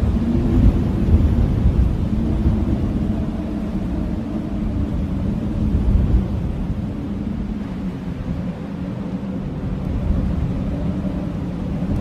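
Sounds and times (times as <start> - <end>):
blizzard wind howling: 0.0 - 12.0
deep steady rumble: 0.0 - 12.0.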